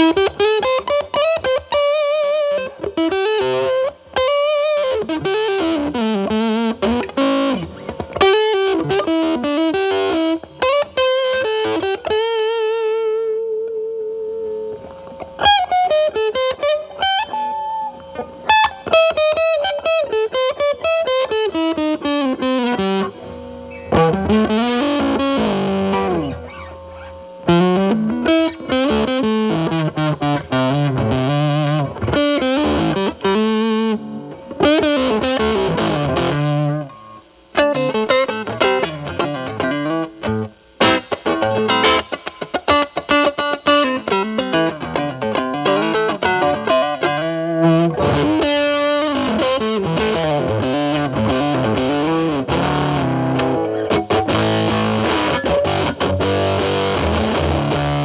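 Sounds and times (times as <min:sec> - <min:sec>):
distorted electric guitar blues lead: 0:00.0 - 0:58.0.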